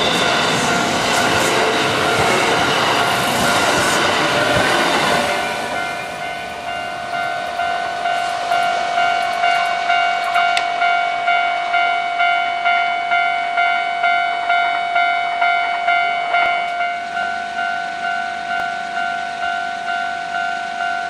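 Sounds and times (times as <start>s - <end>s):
crossing warning bell clanging: 0.0s - 21.0s
electric train rumbling: 0.0s - 21.0s.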